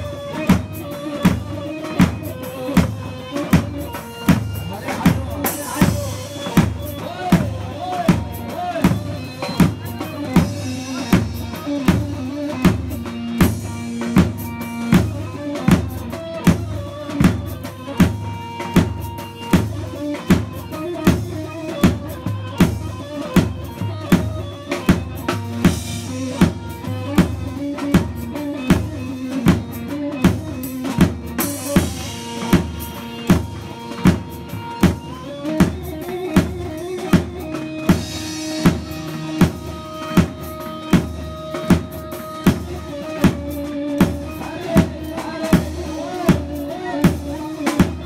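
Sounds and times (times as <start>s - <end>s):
drum kit pounding a beat: 0.0s - 48.0s
electric saz melody: 0.0s - 48.0s.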